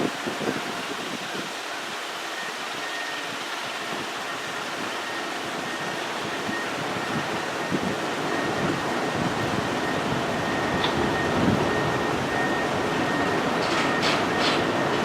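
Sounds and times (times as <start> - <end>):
wind buffeting microphone: 0.0 - 1.6, 3.9 - 15.0
steady rushing outdoor noise: 0.0 - 15.0.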